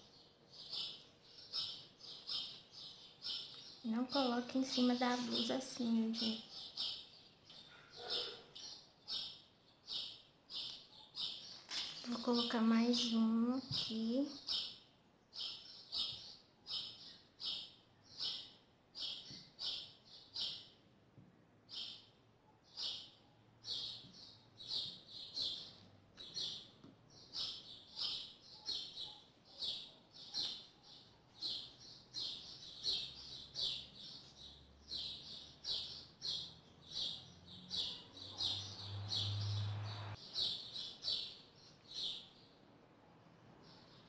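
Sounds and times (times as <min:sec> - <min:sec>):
bird chirping: 0:00.0 - 0:21.0, 0:21.6 - 0:44.0.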